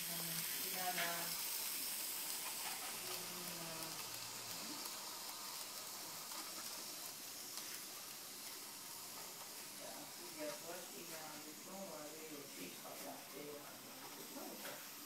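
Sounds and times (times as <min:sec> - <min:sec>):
model train whirring on track: 0:00.0 - 0:15.0.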